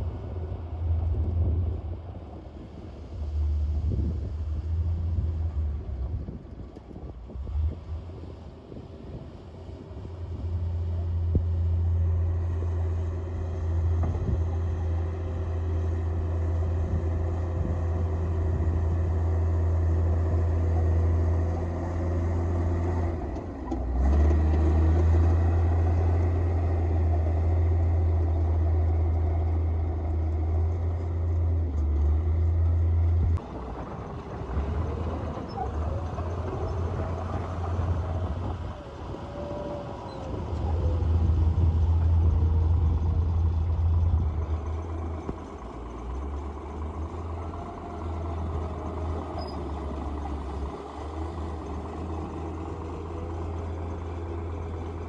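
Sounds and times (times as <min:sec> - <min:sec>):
bulldozer diesel engine drone: 0:00.0 - 0:55.0.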